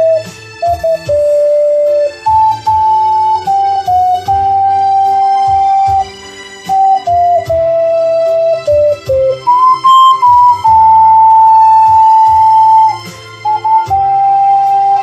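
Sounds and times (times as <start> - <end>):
backing accompaniment: 0.0 - 15.0
ocarina melody: 0.0 - 15.0.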